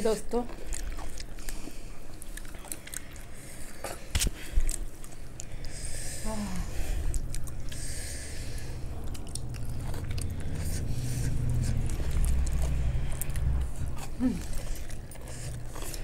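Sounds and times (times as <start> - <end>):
chewing and wet mouth smacking: 0.0 - 16.0.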